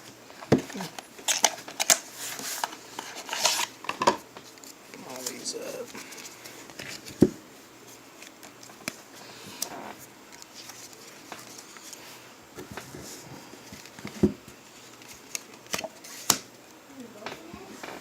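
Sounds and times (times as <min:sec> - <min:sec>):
trading cards being handled: 0:00.6 - 0:16.5.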